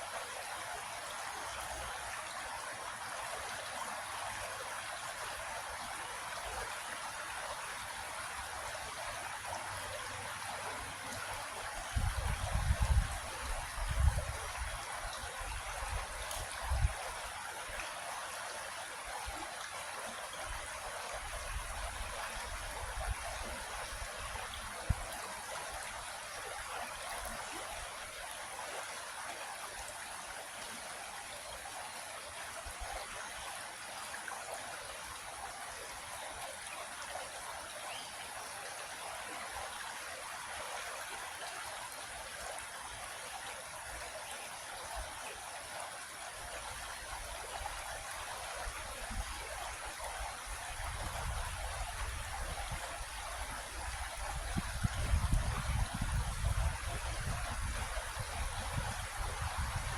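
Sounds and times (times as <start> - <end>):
creek water flowing: 0.0 - 59.9.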